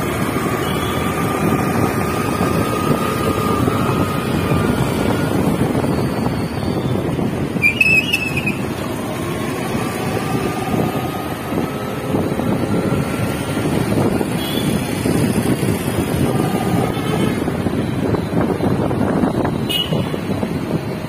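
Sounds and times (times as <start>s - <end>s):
traffic noise: 0.0s - 21.0s
wind buffeting microphone: 0.0s - 21.0s.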